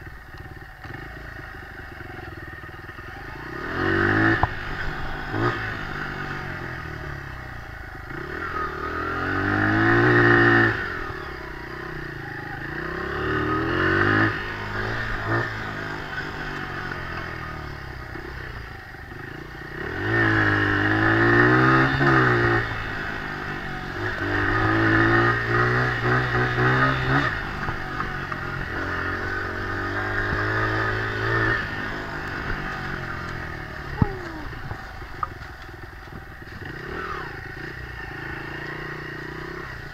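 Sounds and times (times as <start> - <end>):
dirt bike engine revving: 2.0 - 39.9.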